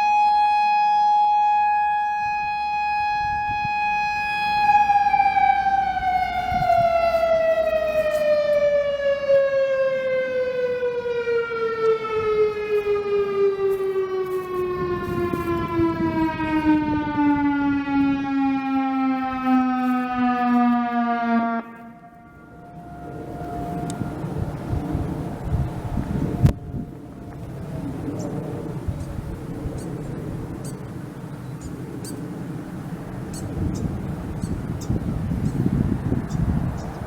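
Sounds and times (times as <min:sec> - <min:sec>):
warning siren winding down: 0:00.0 - 0:29.8.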